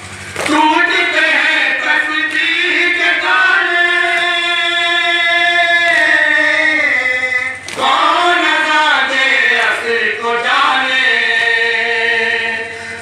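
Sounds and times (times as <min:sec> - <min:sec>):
group of men singing a lament: 0:00.3 - 0:13.0.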